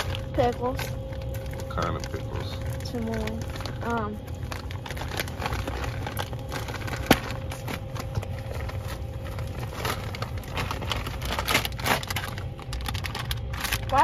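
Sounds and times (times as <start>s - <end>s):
low steady hum: 0.0s - 14.0s
packaging crackling and rustling: 0.0s - 14.0s.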